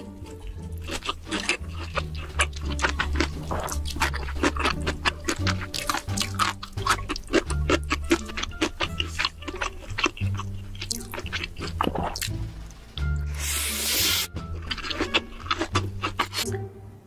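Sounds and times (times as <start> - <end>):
wet chewing and slurping: 0.0 - 16.6
background music with bass line: 0.0 - 17.0.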